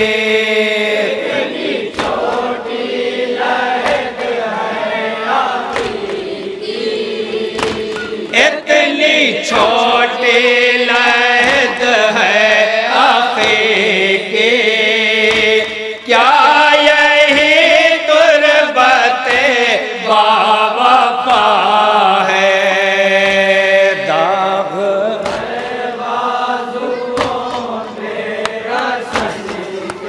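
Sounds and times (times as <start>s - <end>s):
amplified men chanting a lament: 0.0s - 30.0s.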